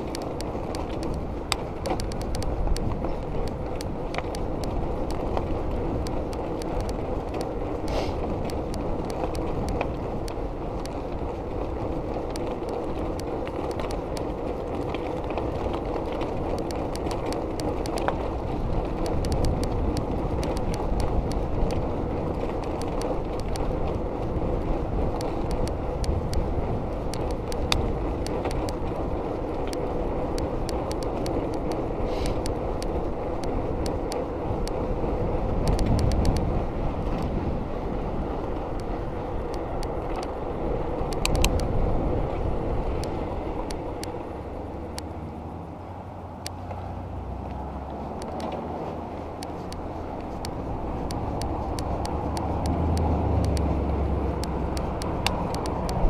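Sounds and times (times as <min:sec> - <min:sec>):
bicycle tyre rumble: 0:00.0 - 0:56.0
bike clicks and rattles: 0:00.0 - 0:56.0
wind noise: 0:00.0 - 0:56.0.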